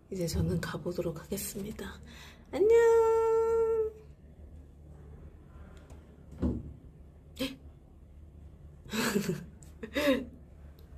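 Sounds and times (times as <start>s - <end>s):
low room hum: 0.0s - 10.9s.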